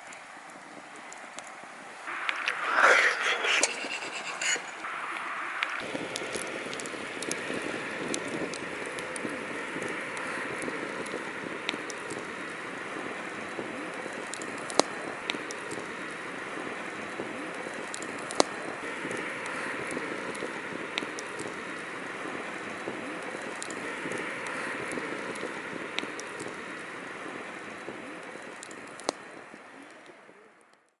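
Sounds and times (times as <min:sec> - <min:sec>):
campfire crackling and hissing: 0:00.0 - 0:31.0
sharp pops of burning wood: 0:04.8 - 0:30.1.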